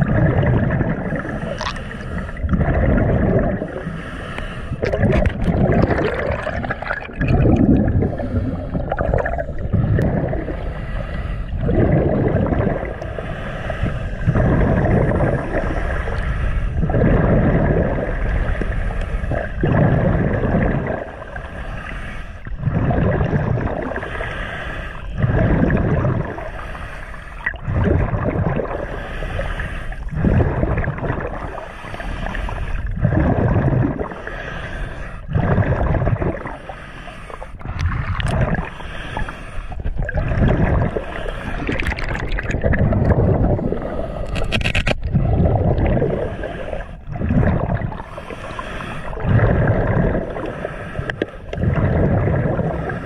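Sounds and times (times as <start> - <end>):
muffled underwater surging: 0.0 - 53.0.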